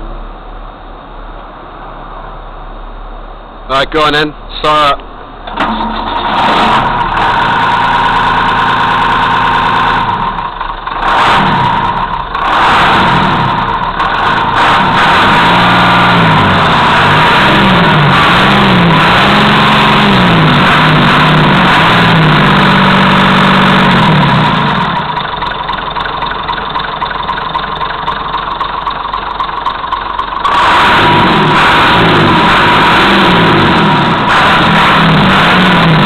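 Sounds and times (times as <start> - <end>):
diesel engine revving and idling: 0.0 - 36.0.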